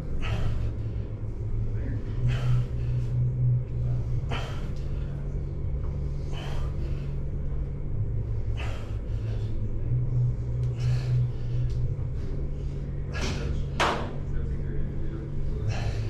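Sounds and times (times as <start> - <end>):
man breathing forcefully: 0.0 - 13.8, 15.3 - 16.0
steady low hum: 0.0 - 16.0.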